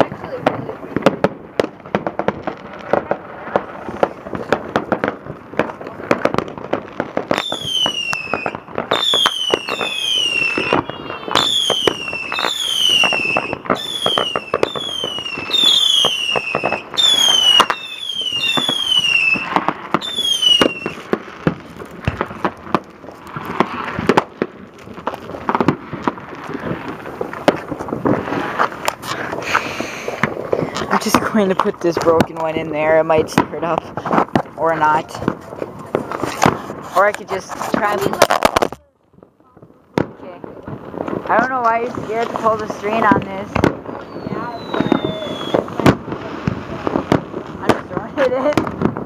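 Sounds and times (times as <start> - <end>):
fireworks crackling pops: 0.0 - 49.0
whistling fireworks: 0.0 - 49.0.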